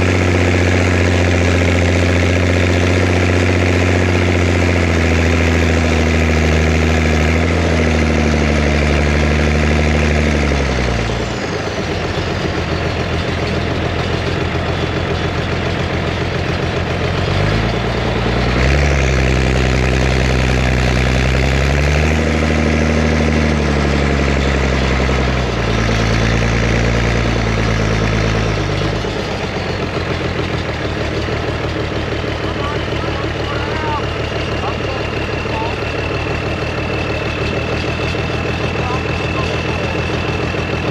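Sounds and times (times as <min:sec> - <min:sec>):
diesel engine revving and idling: 0:00.0 - 0:40.9.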